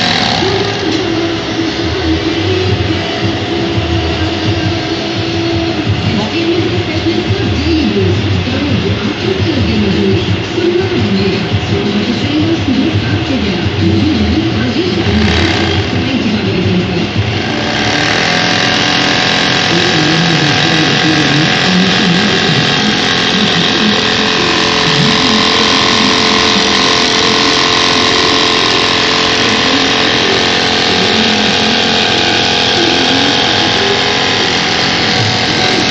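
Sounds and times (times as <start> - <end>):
sewing machine running: 0.0 - 35.9.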